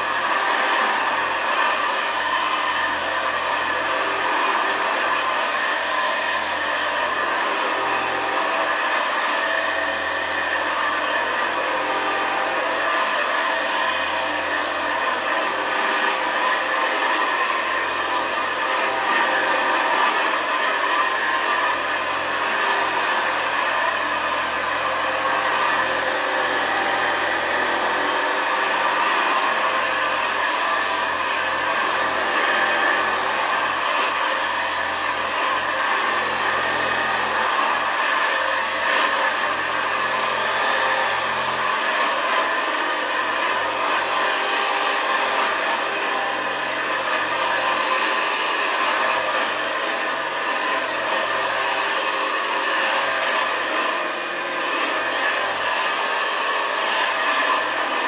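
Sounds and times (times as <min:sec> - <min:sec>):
upright vacuum cleaner running: 0:00.0 - 0:58.0.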